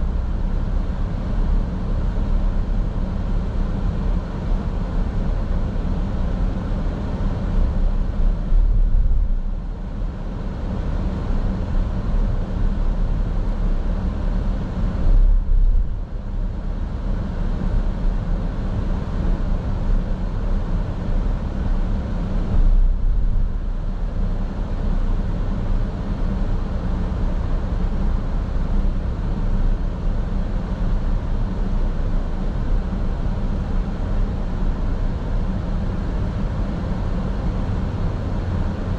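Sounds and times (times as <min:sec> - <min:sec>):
car driving interior rumble: 0:00.0 - 0:38.9.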